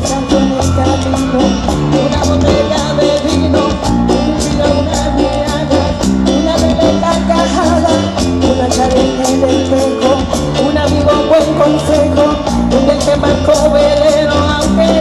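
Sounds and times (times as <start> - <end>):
bass line: 0.0 - 15.0
melody line: 0.0 - 15.0.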